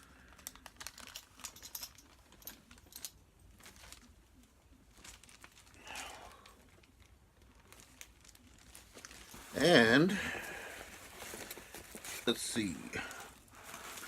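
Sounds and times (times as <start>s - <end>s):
packaging rustling: 0.0s - 9.8s, 10.4s - 14.0s.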